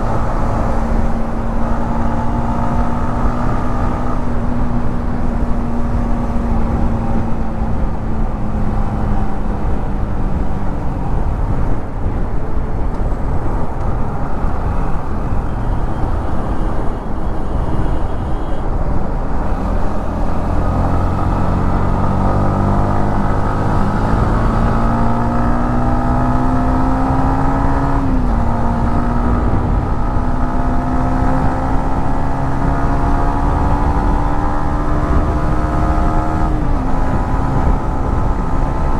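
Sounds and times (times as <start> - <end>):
motorcycle engine revving: 0.0 - 10.4, 13.0 - 38.9
wind and road rush: 0.0 - 38.9.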